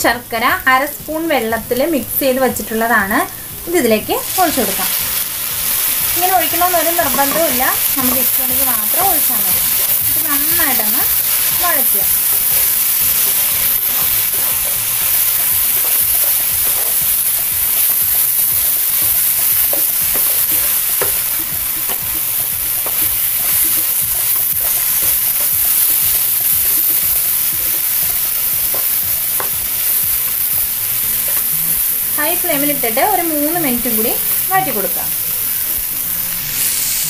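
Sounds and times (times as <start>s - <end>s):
frying sizzle: 0.0s - 37.0s.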